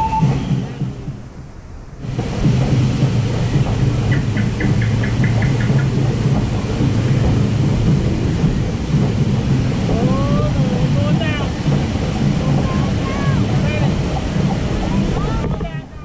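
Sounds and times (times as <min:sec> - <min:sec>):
conveyor mechanical rumble and rattle: 0:01.8 - 0:16.0.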